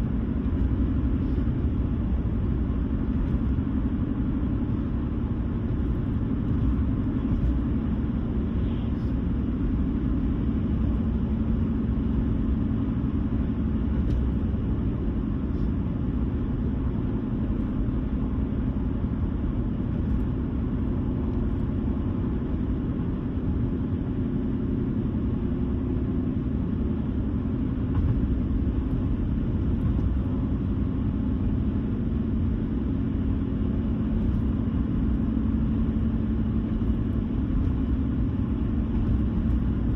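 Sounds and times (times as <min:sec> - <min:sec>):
car engine rumble: 0:00.0 - 0:39.9
tyre road noise: 0:00.0 - 0:39.9.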